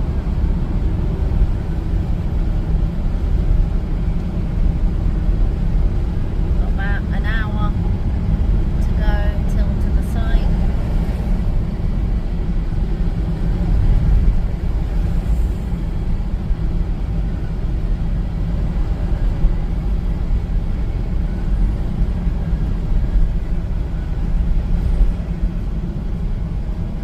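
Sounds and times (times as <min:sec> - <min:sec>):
car road rumble: 0:00.0 - 0:27.0.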